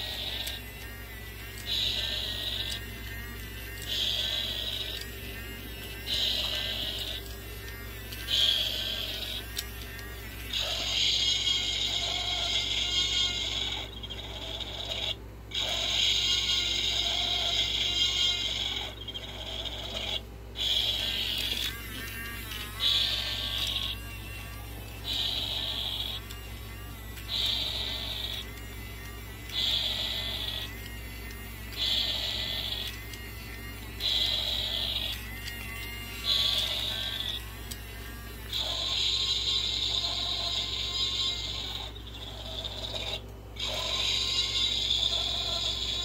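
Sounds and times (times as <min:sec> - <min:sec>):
electronic toy sound effect: 0:00.0 - 0:46.0
toy motor whirring: 0:00.0 - 0:46.0.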